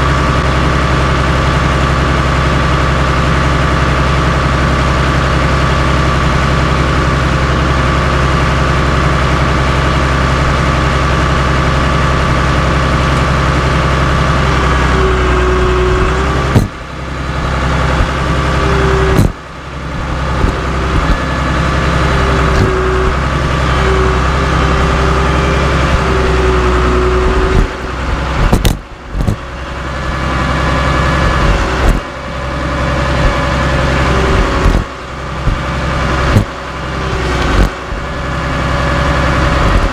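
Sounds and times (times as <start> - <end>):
bulldozer diesel engine running: 0.0 - 39.9
whine: 0.0 - 39.9.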